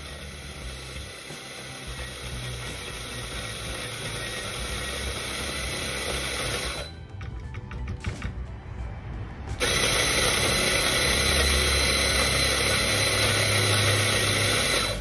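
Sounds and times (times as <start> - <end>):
electric coffee grinder running: 0.0 - 6.9, 9.6 - 15.0.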